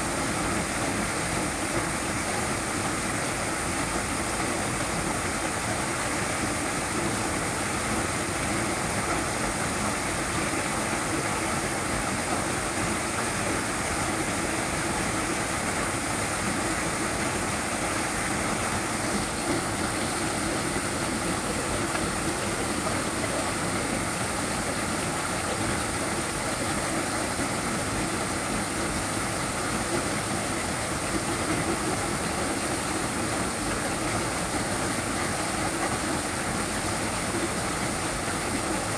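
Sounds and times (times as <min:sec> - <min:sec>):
waterfall rushing: 0:03.8 - 0:38.9.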